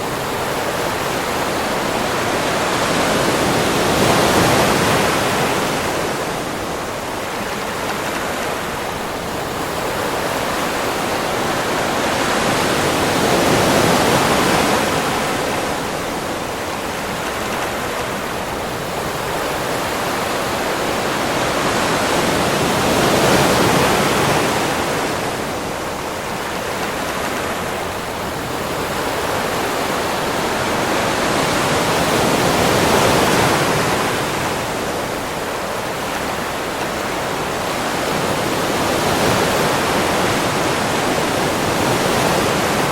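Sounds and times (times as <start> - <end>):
ocean surf washing onto beach: 0.0 - 42.9.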